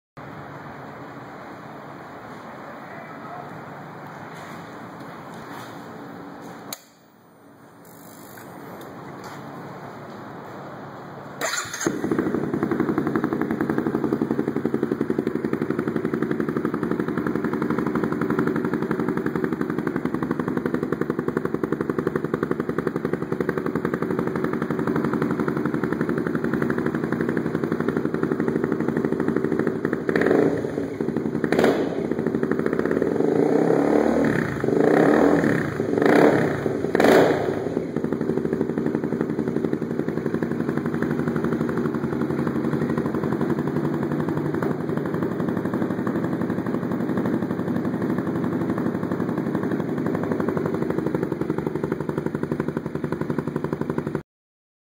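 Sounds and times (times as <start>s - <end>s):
motorcycle engine idling and revving: 0.2s - 54.2s.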